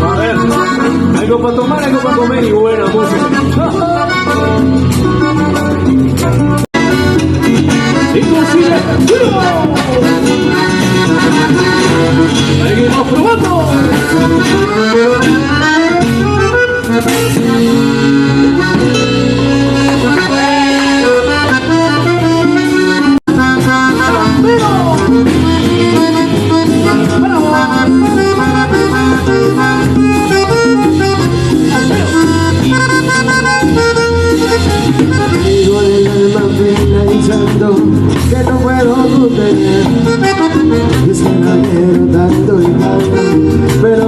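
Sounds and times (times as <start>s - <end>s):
folk band playing: 0.0s - 44.0s.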